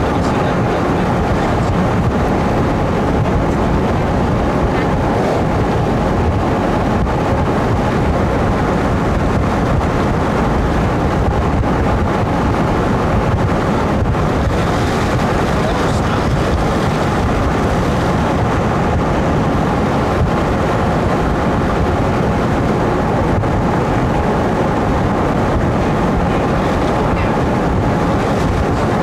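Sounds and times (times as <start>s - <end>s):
car road and engine noise: 0.0s - 29.0s
wind over microphone: 0.0s - 29.0s.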